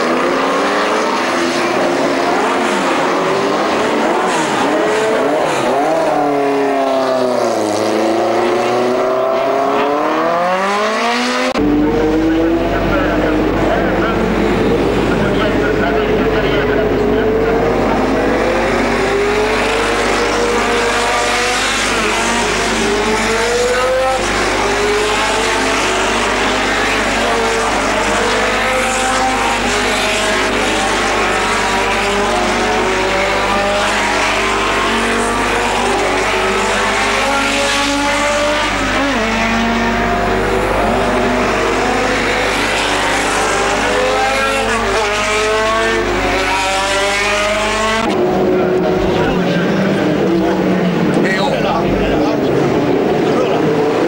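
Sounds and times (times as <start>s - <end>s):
racing cars passing at speed: 0.0s - 54.0s.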